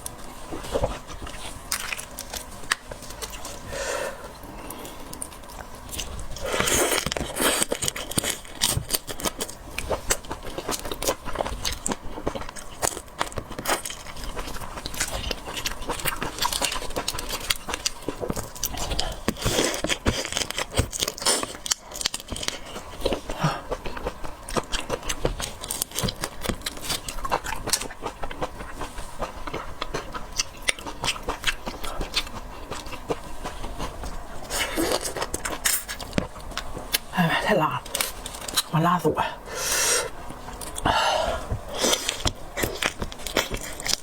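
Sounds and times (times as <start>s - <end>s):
wet chewing and crunching: 0.0s - 39.1s, 40.1s - 44.0s.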